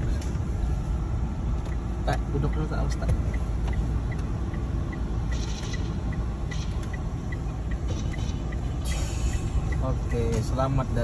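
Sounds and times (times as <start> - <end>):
car engine and road noise: 0.0 - 11.0
light regular ticking: 0.1 - 11.0.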